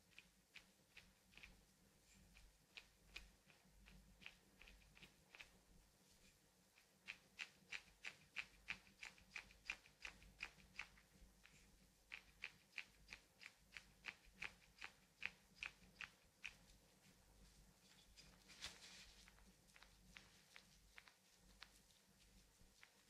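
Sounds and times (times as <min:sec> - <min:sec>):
hands rubbing skin: 0:00.1 - 0:23.0.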